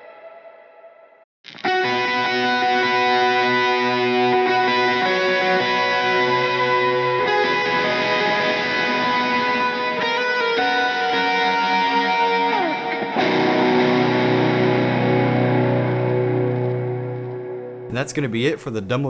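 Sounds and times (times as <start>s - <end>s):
overdriven electric guitar chords: 0.0s - 17.9s.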